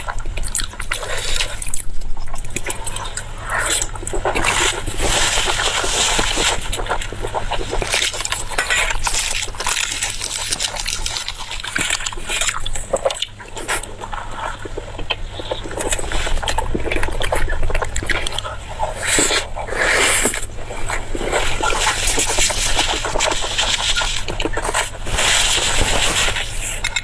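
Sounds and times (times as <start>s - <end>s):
wet chewing and lip-smacking: 0.0s - 27.0s.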